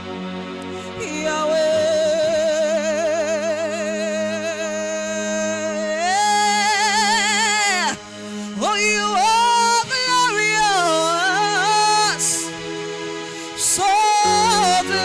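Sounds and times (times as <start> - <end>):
person singing with vibrato: 0.6 - 15.0.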